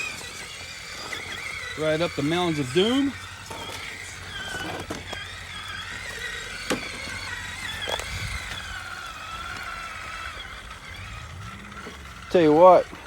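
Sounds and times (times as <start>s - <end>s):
electric motor whining: 0.0s - 13.0s
toy truck clicking against rock: 0.0s - 13.0s.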